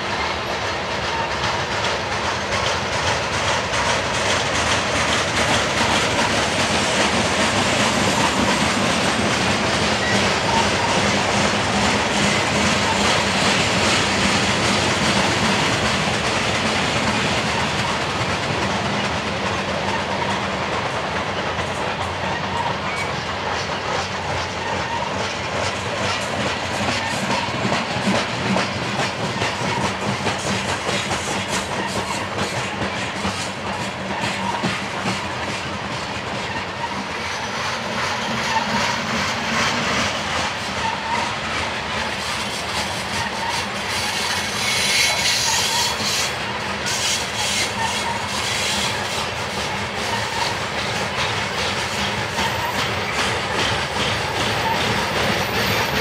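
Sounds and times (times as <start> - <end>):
freight train wheels rumbling: 0.0 - 56.0
wheels clacking over rail joints: 0.0 - 56.0.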